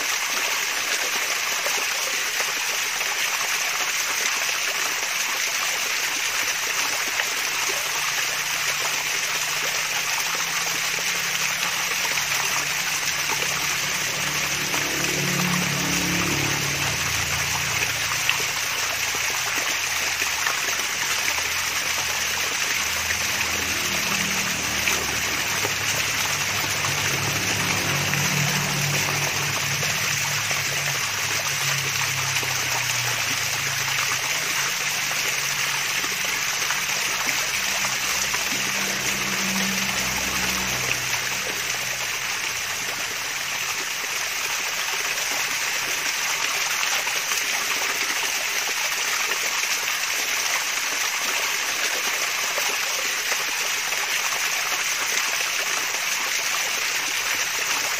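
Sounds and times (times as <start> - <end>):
water babbling over waterfall: 0.0 - 57.9.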